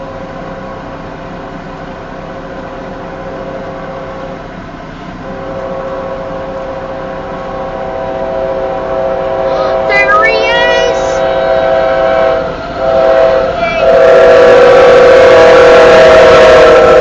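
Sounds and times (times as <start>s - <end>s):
locomotive rumble: 0.0s - 17.0s
diesel locomotive horn drone: 2.2s - 17.0s.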